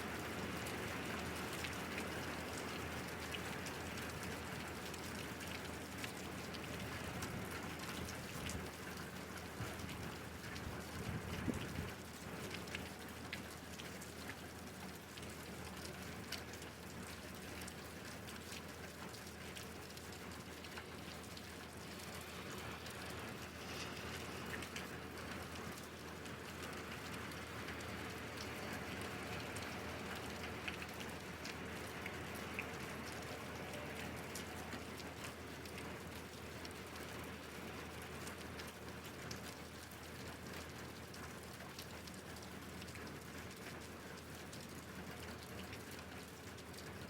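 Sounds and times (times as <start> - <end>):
rain drops on hard surface: 0.0 - 47.0.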